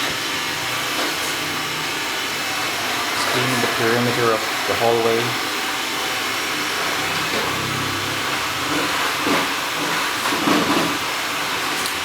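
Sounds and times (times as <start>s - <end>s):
robot vacuum whirring: 0.0s - 11.9s.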